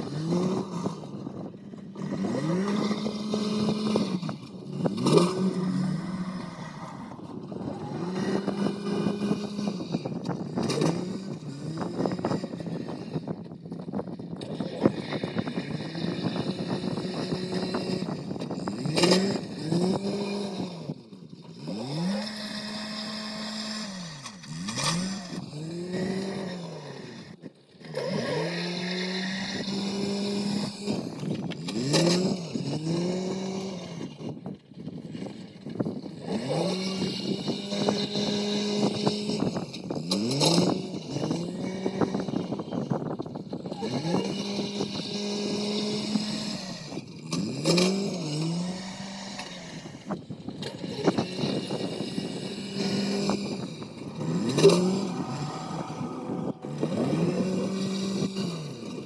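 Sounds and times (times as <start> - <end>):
farm machine engine revving: 0.0 - 13.4, 14.4 - 59.0.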